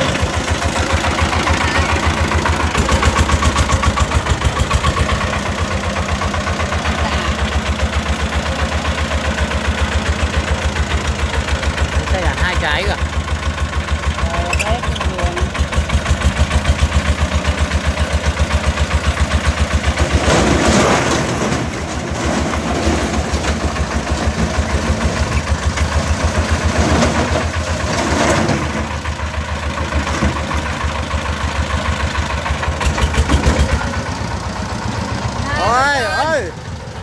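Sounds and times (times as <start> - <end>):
diesel engine chugging: 0.0 - 37.0.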